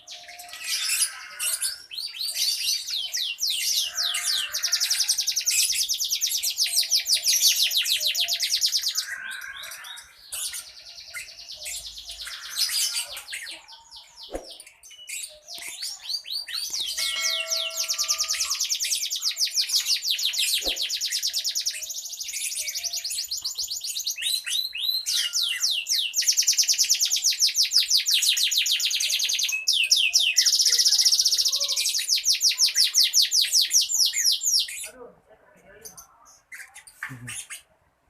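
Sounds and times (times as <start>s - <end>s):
lovebird chattering song: 0.0s - 35.0s, 35.8s - 37.7s.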